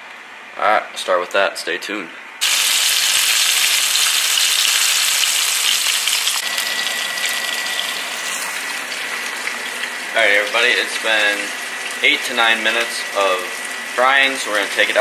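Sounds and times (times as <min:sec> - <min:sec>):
meat deep-frying in oil: 0:02.4 - 0:15.0.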